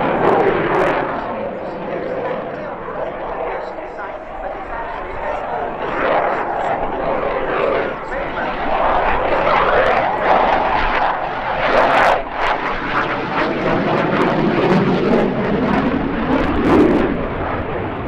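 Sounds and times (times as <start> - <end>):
fighter jet engines rumbling: 0.0 - 18.0.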